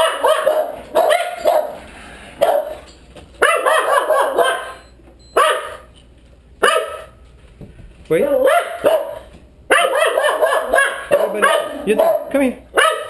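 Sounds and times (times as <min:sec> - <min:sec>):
dogs barking excitedly: 0:00.0 - 0:06.0, 0:06.6 - 0:07.3, 0:08.1 - 0:13.0.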